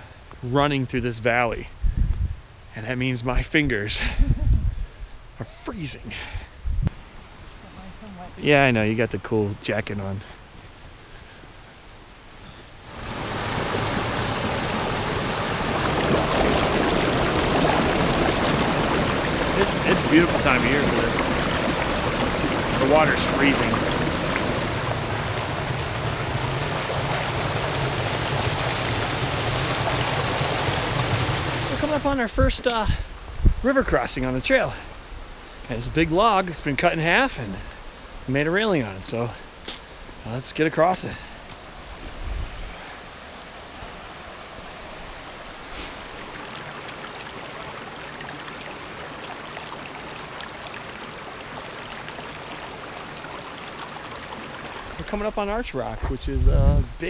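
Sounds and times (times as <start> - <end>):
creek water rushing: 7.0 - 56.0.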